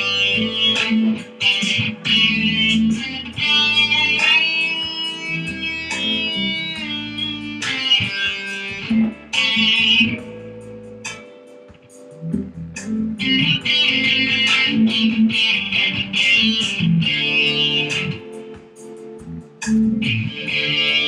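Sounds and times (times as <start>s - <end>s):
backing music: 0.0s - 21.0s
guitar melody with bends: 0.0s - 21.0s.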